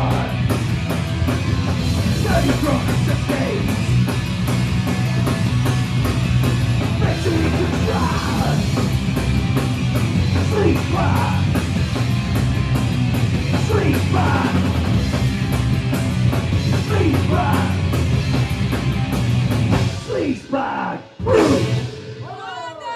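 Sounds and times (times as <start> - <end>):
live punk band playing: 0.0 - 20.5, 21.1 - 22.3.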